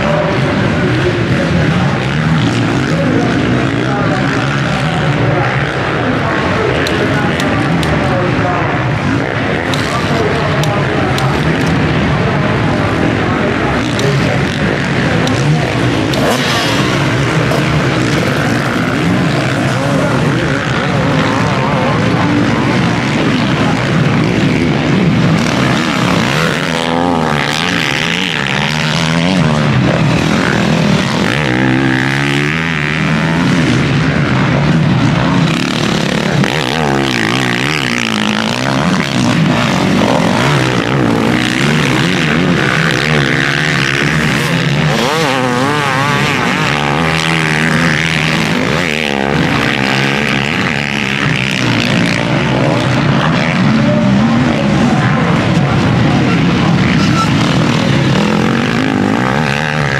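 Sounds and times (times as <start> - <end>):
motocross bike engines racing: 0.0 - 59.9.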